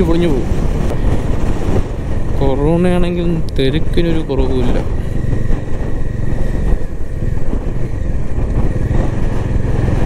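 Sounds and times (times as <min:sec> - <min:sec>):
wind buffeting microphone: 0:00.0 - 0:10.0
motorcycle engine running: 0:00.4 - 0:10.0.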